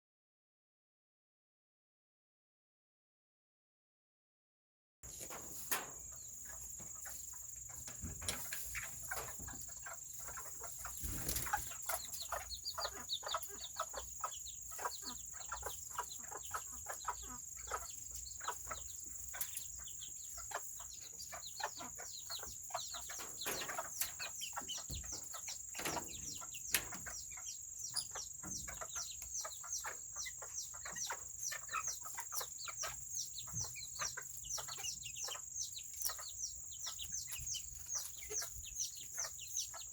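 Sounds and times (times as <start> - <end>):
chickens peeping and clucking: 5.1 - 39.9.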